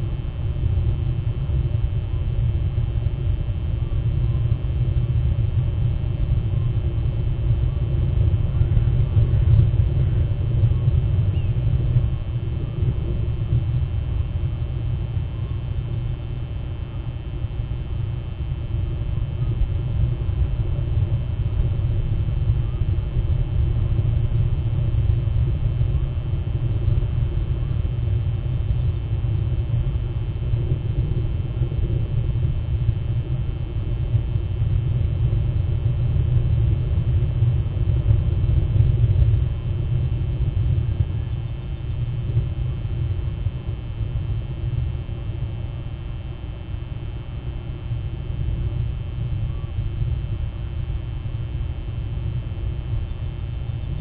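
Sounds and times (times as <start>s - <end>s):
faint steady tones: 0.0s - 54.0s
steady low rumble: 0.0s - 54.0s.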